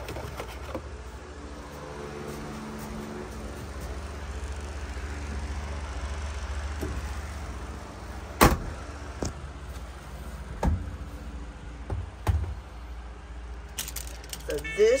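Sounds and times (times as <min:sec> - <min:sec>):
laundry appliance hum: 0:00.0 - 0:13.7.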